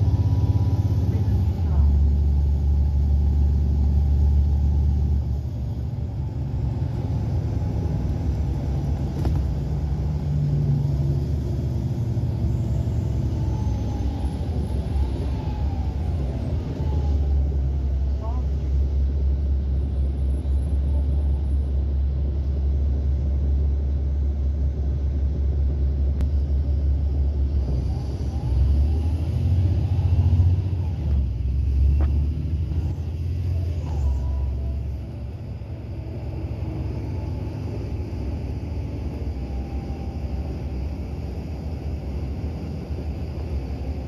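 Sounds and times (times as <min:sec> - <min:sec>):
bus diesel engine drone: 0:00.0 - 0:44.0.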